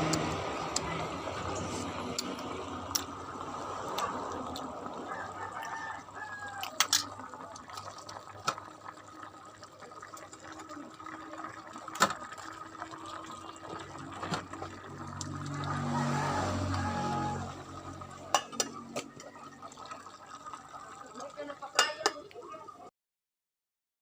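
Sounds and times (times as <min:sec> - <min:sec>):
liquid sounds: 0:00.0 - 0:22.9.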